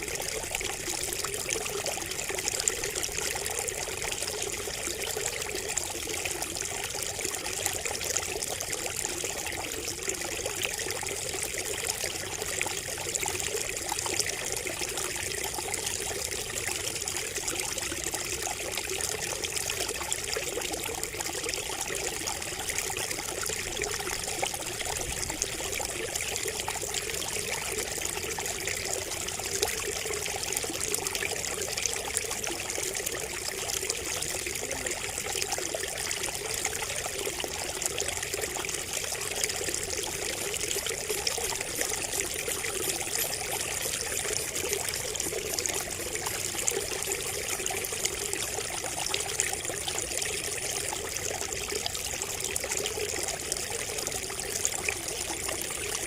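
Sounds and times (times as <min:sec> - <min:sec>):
water trickling from spout: 0:00.0 - 0:56.0.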